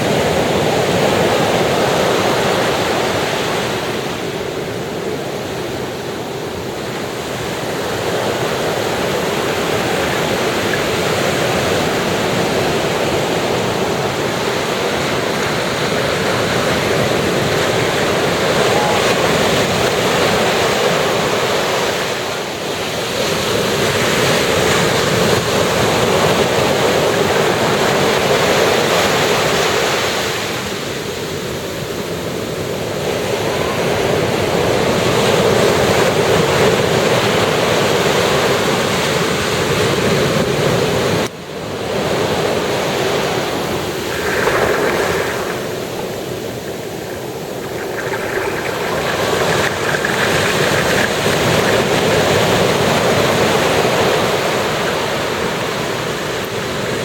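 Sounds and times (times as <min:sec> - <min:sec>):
ocean surf washing onto beach: 0:00.0 - 0:57.0.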